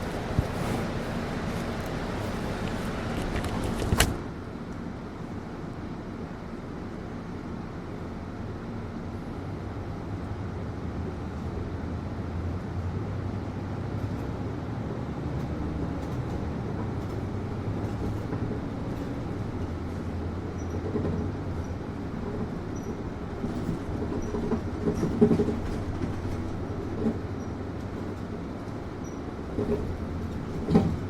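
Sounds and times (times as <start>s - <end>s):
bus air-conditioning hum: 0.0s - 31.0s
engine and road rumble: 0.0s - 31.0s.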